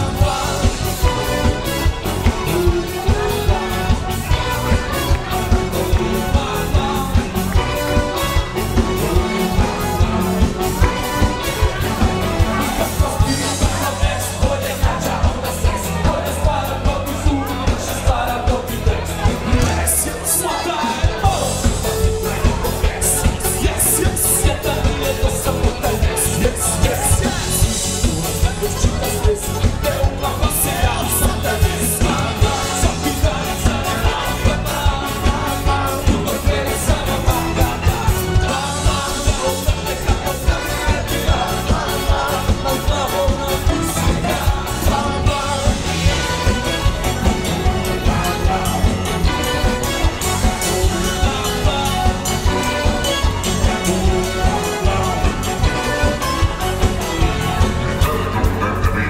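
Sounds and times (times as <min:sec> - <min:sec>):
dance band playing pop song: 0:00.0 - 0:59.0
fast drum beat: 0:00.0 - 0:59.0
person singing: 0:00.0 - 0:59.0.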